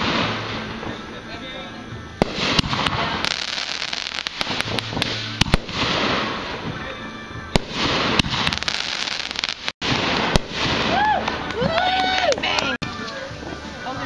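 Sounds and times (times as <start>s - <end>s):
fireworks bangs and crackles: 0.0s - 12.8s.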